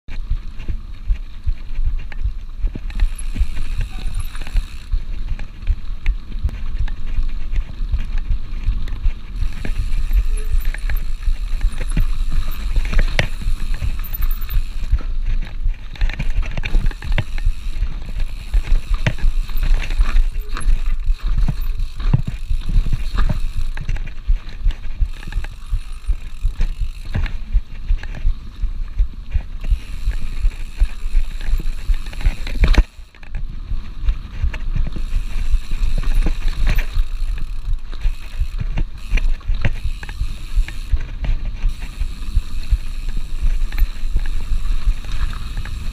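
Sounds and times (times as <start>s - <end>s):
bike rattling and clacking: 0.1s - 45.9s
bike tyres rolling over dirt: 0.1s - 45.9s
wind buffeting microphone: 0.1s - 45.9s.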